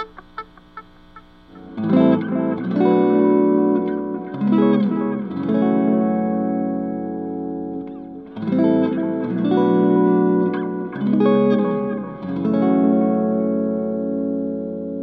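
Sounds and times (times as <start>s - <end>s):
electric guitar chords ringing: 0.0s - 15.0s.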